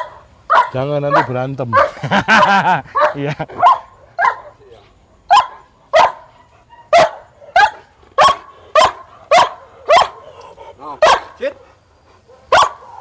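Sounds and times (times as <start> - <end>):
large dog barking: 0.0 - 4.6, 5.3 - 13.0.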